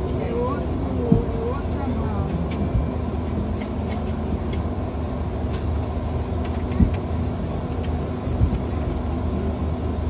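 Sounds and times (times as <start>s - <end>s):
airliner cabin hum: 0.0s - 10.0s.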